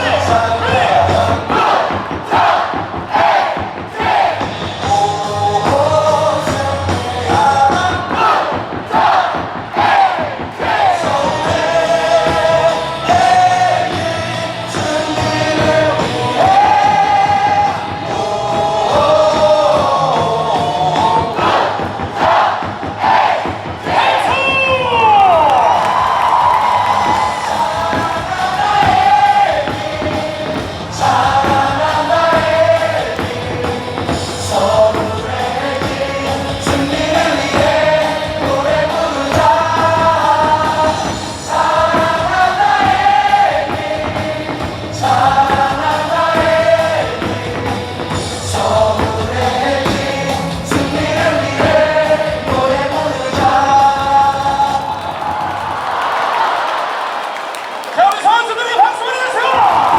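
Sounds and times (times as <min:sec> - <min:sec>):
amplified backing music: 0:00.0 - 0:56.0
stadium crowd singing in unison: 0:00.0 - 0:59.9.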